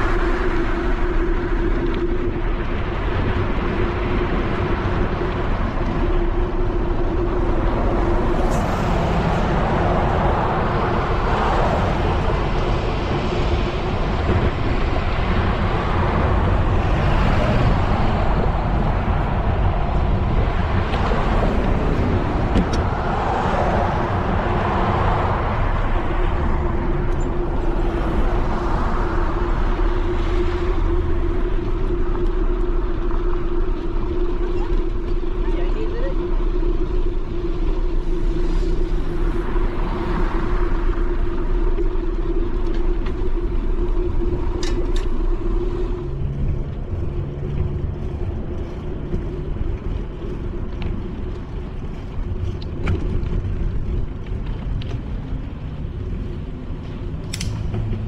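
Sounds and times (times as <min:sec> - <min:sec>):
passing cars: 0:00.0 - 0:58.0
steady hum: 0:00.0 - 0:58.0
wind on microphone: 0:00.0 - 0:58.0.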